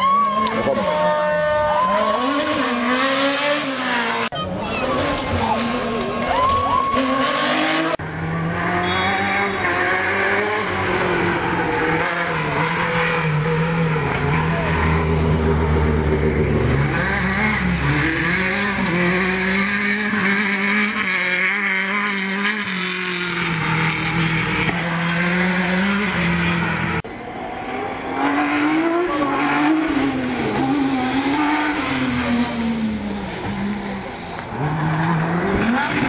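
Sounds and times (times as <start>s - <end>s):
rally car engine revving hard: 0.5s - 27.0s, 27.6s - 36.0s.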